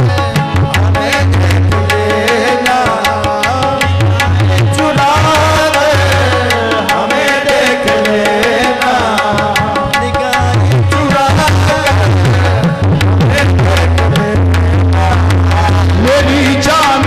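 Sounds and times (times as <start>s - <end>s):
harmonium melody: 0.0s - 17.0s
tabla drumming: 0.0s - 17.0s.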